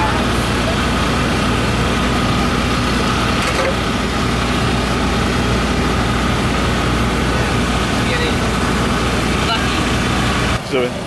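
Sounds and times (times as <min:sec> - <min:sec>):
constant high whine: 0:00.0 - 0:11.0
engine idling: 0:00.0 - 0:11.0.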